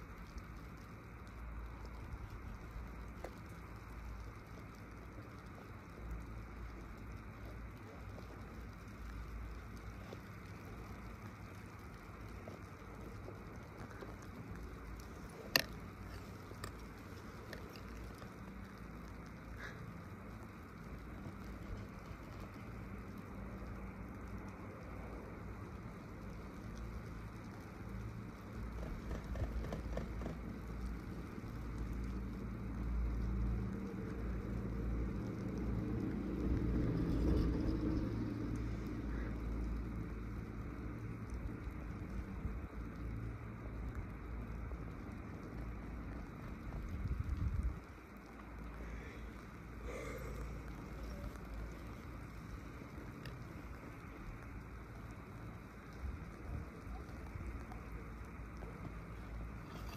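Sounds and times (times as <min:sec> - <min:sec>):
faint ticks: 0:00.0 - 0:59.9
chairlift rumble: 0:00.4 - 0:59.9.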